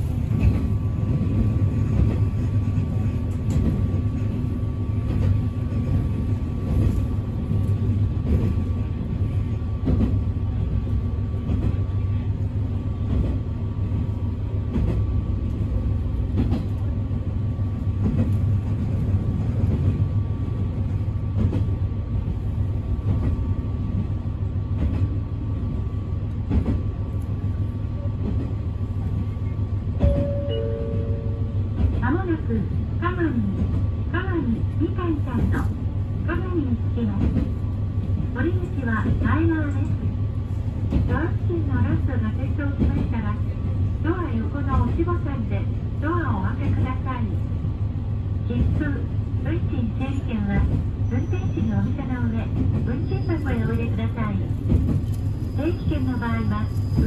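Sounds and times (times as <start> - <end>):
railcar low rumble: 0.0 - 57.0.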